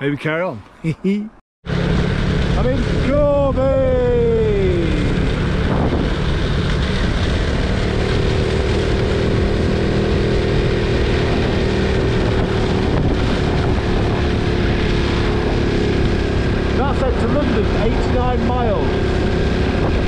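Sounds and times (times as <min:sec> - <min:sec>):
motorcycle engine running: 0:01.7 - 0:20.0
wind buffeting microphone: 0:02.0 - 0:20.0.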